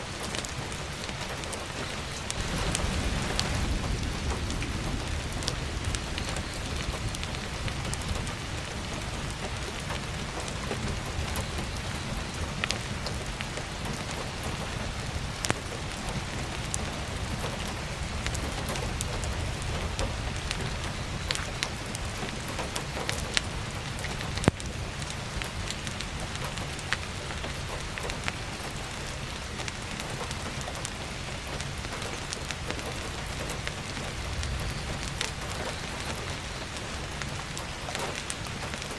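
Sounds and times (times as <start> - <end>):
burning logs crackling: 0.0 - 38.9
heavy rain: 0.0 - 38.9.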